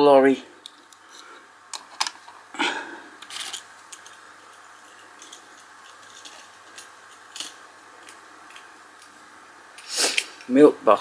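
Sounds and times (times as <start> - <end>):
low hiss: 0.0 - 11.0.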